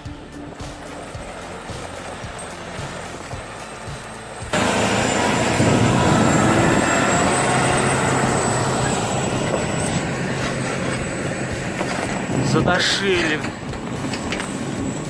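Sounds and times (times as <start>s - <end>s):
heavy engine running: 0.0s - 15.0s
loud mechanical noise: 0.0s - 15.0s.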